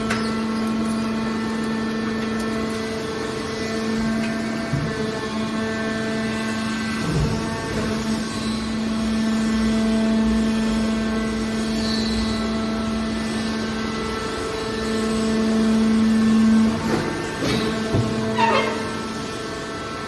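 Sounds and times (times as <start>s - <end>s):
industrial machine humming: 0.0s - 20.0s.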